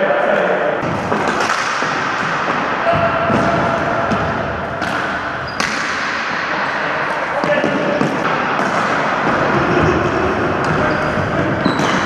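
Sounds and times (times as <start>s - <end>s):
echoing hall noise: 0.0s - 12.0s
hockey sticks knocking ball and floor: 0.8s - 12.0s.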